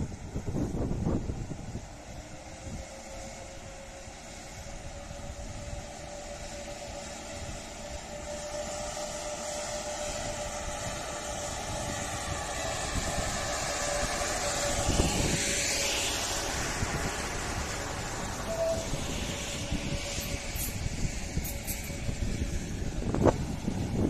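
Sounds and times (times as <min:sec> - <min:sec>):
locomotive cooling blowers humming: 0:00.0 - 0:24.0.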